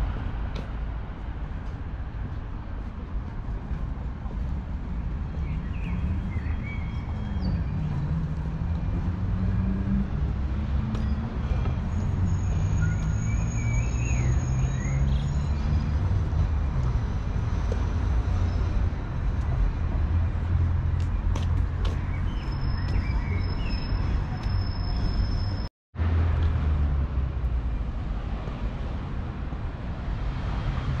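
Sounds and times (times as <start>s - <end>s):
cars passing on road: 0.0s - 31.0s.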